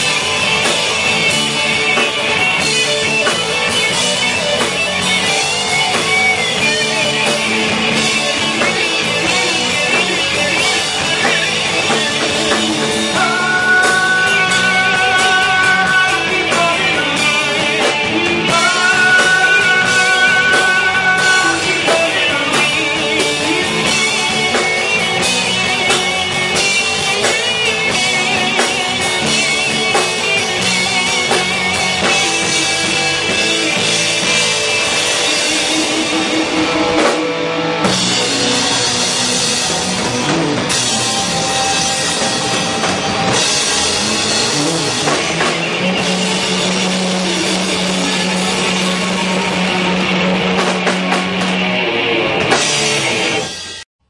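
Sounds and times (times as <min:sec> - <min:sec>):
electric guitar: 0:00.0 - 0:53.8
drum kit: 0:00.0 - 0:53.9
rock band playing live: 0:00.0 - 0:53.9.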